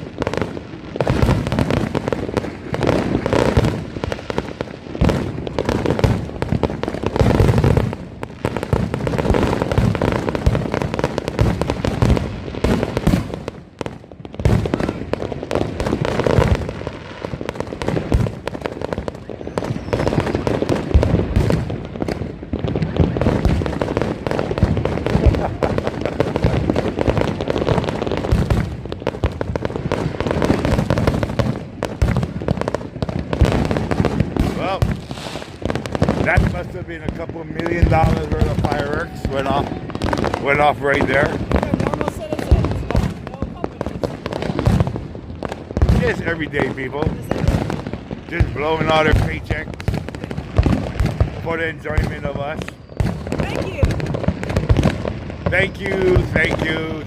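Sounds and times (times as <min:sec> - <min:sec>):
fireworks and firecrackers banging: 0:00.0 - 0:57.0.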